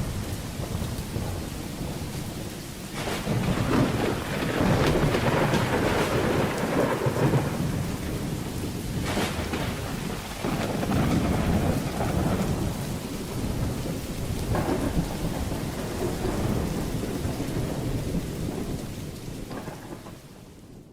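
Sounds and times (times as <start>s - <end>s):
sharp thunder peal: 0.0s - 18.8s
heavy rain: 0.0s - 20.9s
thunder rumbling: 0.0s - 20.9s.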